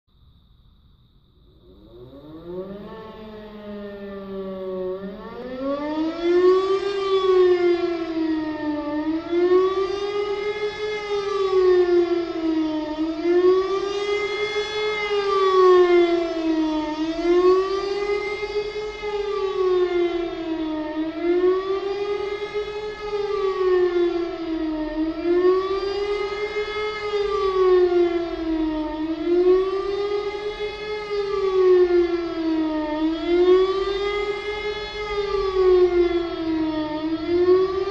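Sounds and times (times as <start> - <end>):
wailing siren: 1.4 - 37.9.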